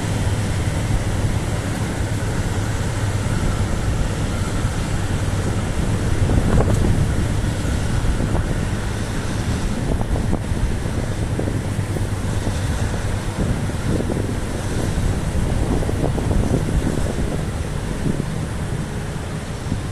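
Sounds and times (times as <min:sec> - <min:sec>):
freight train wagons rumbling: 0:00.0 - 0:19.9
wind noise on microphone: 0:00.0 - 0:19.9.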